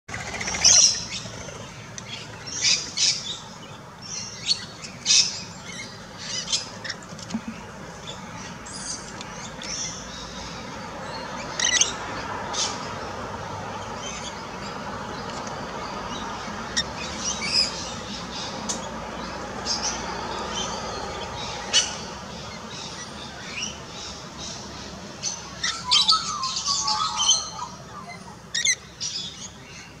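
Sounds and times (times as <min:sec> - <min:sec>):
birds chirping and squawking: 0:00.1 - 0:13.2, 0:13.8 - 0:30.0.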